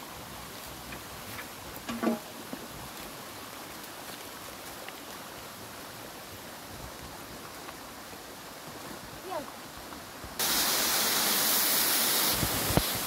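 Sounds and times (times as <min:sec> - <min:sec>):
water flowing: 0:00.0 - 0:13.0.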